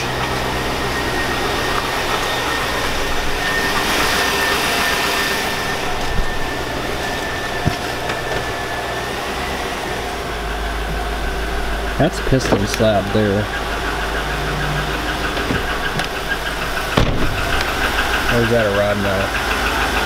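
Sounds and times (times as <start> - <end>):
car engine idling: 0.0 - 20.0
high whine: 0.0 - 20.0.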